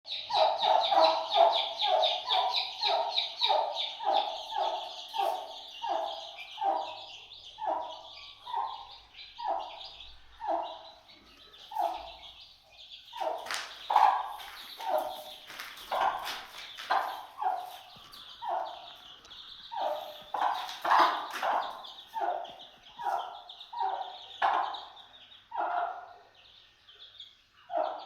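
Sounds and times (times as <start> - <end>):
chicken clucking: 0.1 - 28.0.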